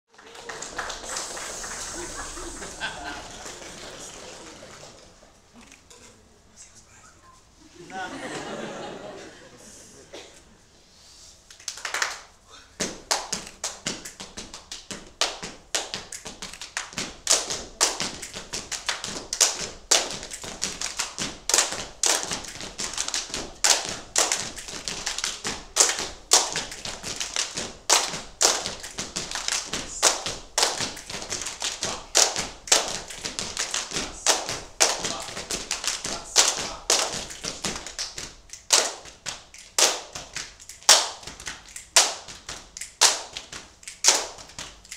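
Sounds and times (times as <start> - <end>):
group body percussion: 0.1 - 5.8, 11.5 - 44.9.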